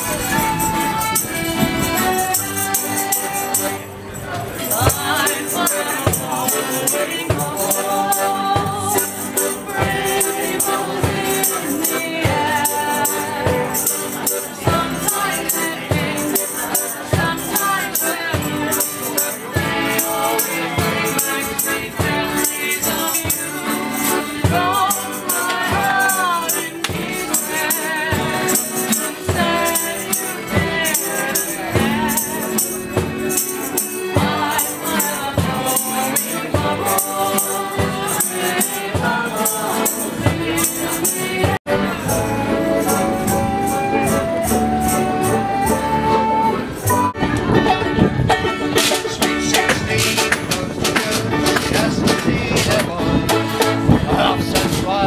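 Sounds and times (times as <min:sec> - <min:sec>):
accordion: 0:00.0 - 0:55.0
banjo: 0:00.0 - 0:55.0
guitar: 0:00.0 - 0:55.0
upright bass: 0:00.0 - 0:55.0.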